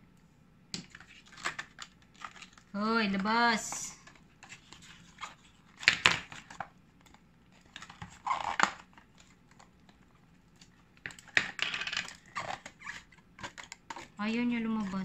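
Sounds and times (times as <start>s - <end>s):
packaging clicking and rustling: 0.8s - 2.7s, 4.0s - 14.2s.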